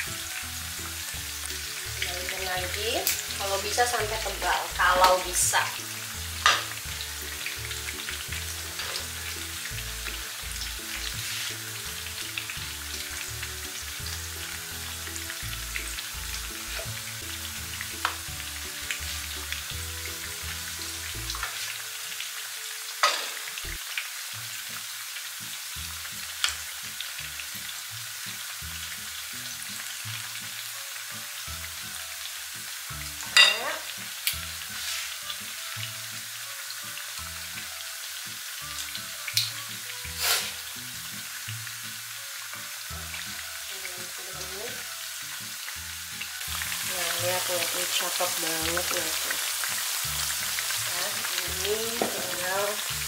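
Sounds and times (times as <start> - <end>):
hot oil sizzling: 0.0 - 53.0.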